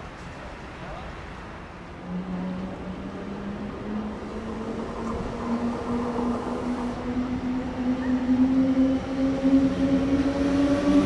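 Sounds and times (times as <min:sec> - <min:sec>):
rail and yard noise: 0:00.0 - 0:11.0
electric locomotive drive whining: 0:01.2 - 0:11.0
higher whining tone: 0:01.8 - 0:11.0.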